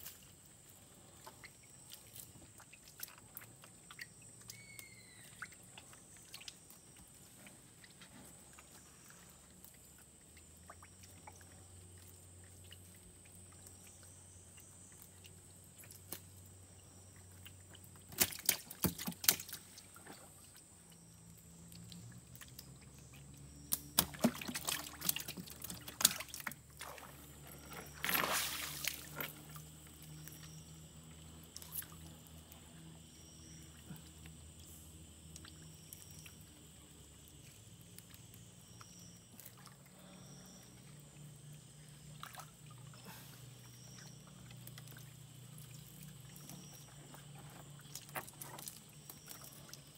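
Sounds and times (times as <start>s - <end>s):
water splashing and dripping: 0.0s - 32.6s, 33.3s - 40.0s, 40.8s - 49.9s.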